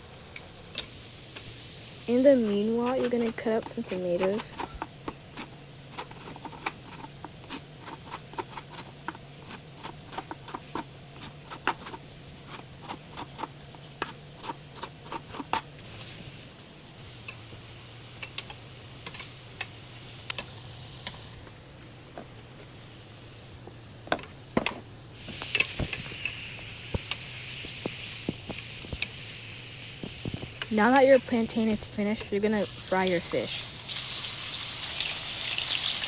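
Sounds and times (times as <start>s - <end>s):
soft hiss with pops: 0.0s - 12.2s, 15.7s - 36.0s.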